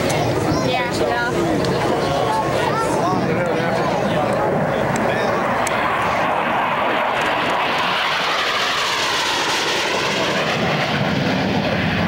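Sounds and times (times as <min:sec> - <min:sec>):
jet engine flying past: 0:00.0 - 0:12.0.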